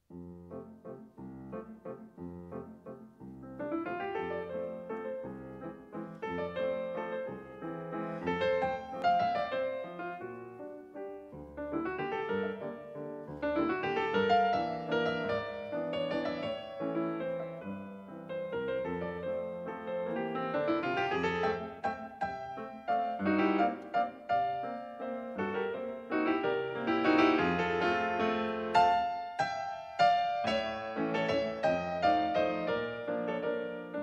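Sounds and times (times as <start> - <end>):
piano music: 0.0 - 34.0.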